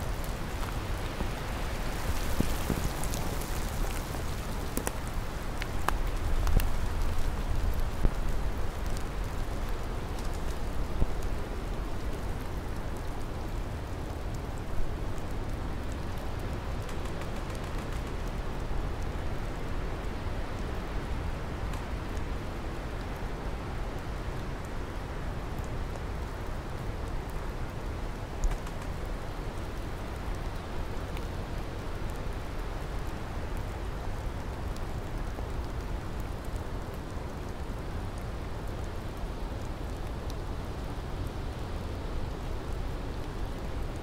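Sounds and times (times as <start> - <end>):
steady rainfall: 0.0 - 44.0.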